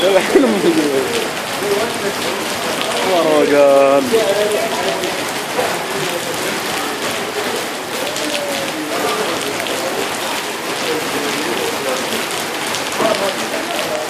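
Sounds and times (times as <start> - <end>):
faint voices: 0.0 - 14.0
heavy rain pattering: 0.0 - 14.0.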